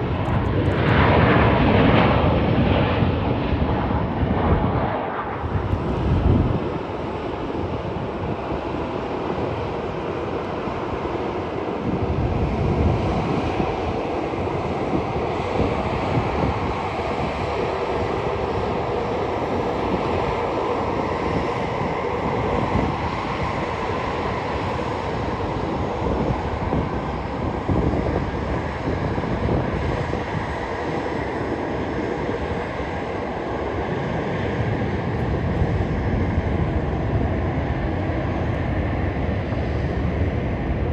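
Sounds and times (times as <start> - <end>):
jet engines running with whine: 0.0 - 40.9
wind rumble on microphone: 0.0 - 40.9.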